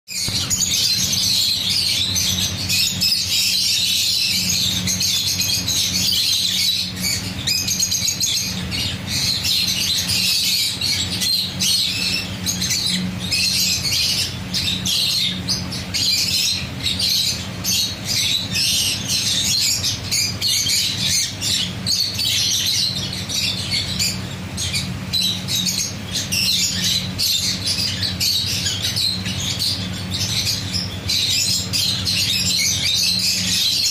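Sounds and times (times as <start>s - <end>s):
budgerigars chattering and squawking: 0.1s - 33.9s
steady low hum: 0.1s - 33.9s.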